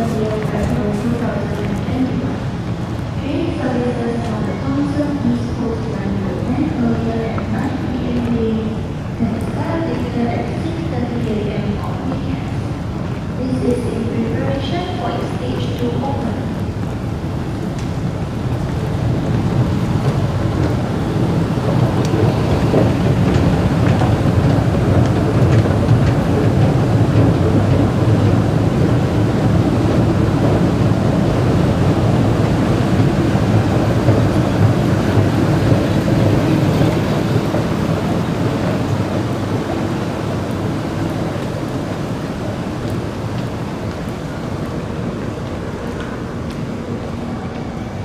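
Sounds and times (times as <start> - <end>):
low rumble in underground station: 0.0 - 48.0.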